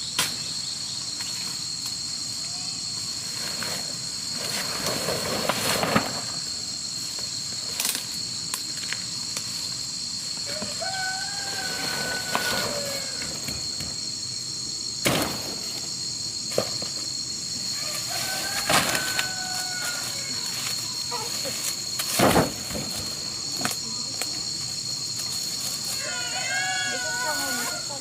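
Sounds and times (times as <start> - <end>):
high-pitched insect drone: 0.0 - 28.0.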